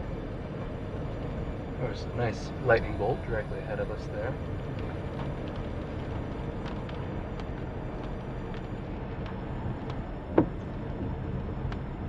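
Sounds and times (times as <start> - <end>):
car driving slowly: 0.0 - 12.0.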